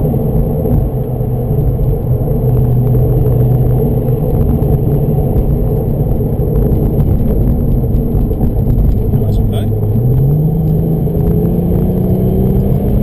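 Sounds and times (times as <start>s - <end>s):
car engine running: 0.0s - 13.0s
tyre and wind roar: 0.0s - 13.0s.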